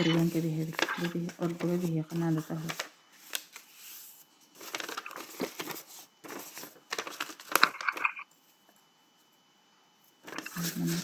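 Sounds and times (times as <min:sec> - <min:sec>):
paper rustling and crinkling: 0:00.0 - 0:08.2, 0:10.2 - 0:11.0.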